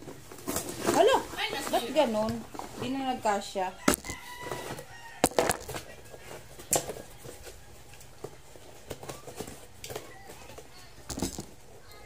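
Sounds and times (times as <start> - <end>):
cardboard and paper rustling: 0.0 - 12.0.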